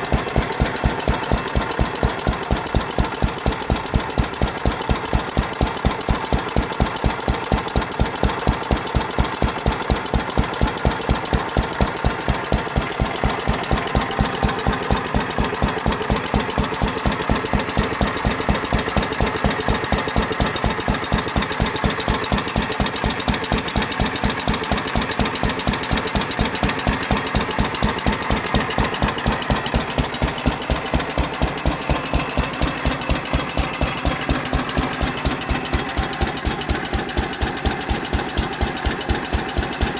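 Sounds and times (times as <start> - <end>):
hit-and-miss gas engine running: 0.0 - 39.9.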